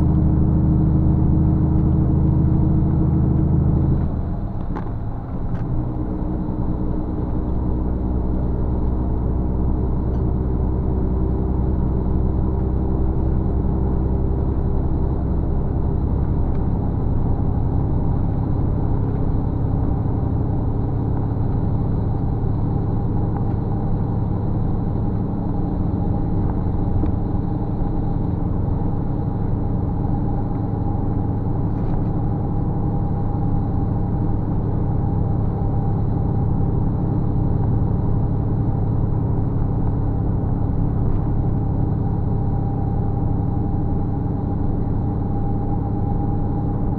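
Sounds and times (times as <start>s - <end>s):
road rumble: 0.0s - 46.9s
vehicle engine drone: 0.0s - 46.9s.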